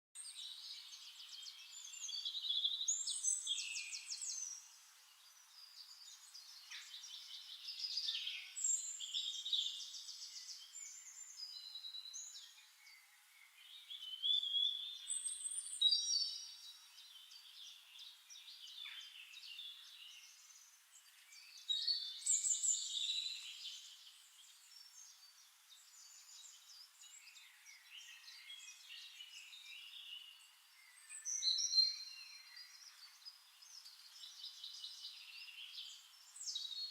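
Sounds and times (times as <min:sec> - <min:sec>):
songbirds trilling and chirping: 0:00.2 - 0:36.9.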